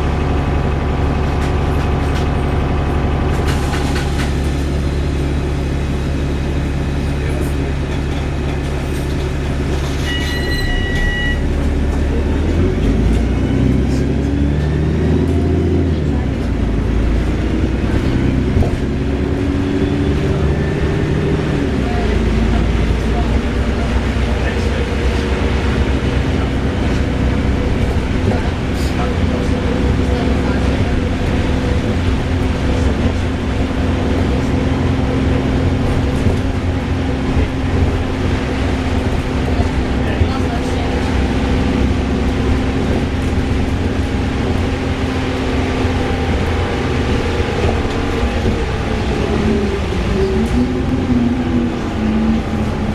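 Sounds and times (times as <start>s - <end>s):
bus engine droning and whirring: 0.0s - 52.9s.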